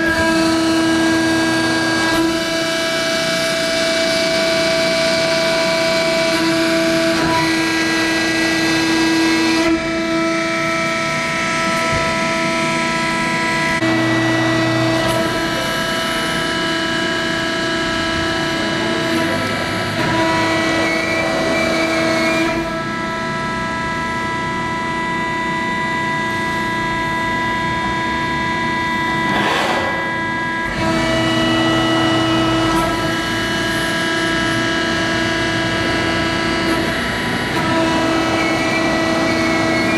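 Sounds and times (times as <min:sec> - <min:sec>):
hydraulic pump whining: 0:00.0 - 0:39.9.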